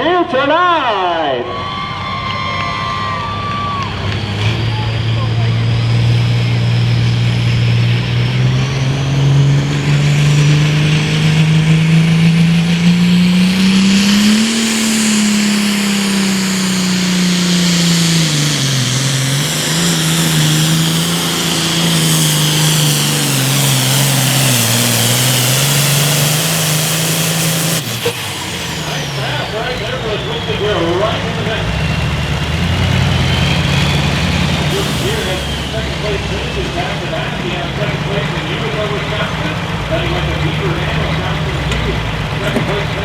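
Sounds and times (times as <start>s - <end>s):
high turbo whine: 0.0s - 43.0s
tractor diesel engine revving: 0.0s - 43.0s.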